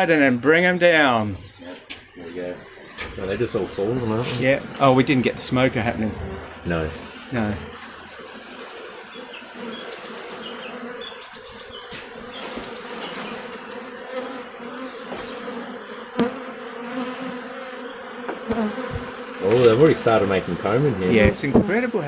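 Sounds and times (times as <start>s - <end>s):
bees buzzing: 1.2s - 22.0s.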